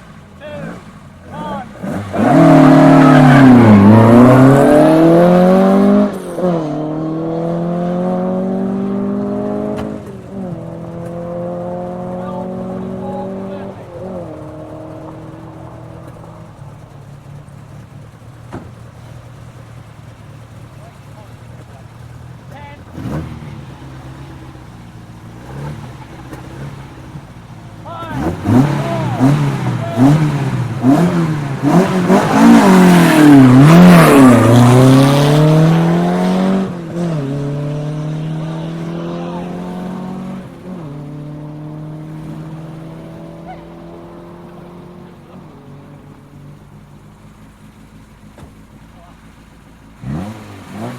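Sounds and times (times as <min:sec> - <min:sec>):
low engine rumble: 0:00.0 - 0:50.2
rally car pulling away: 0:00.0 - 0:50.9.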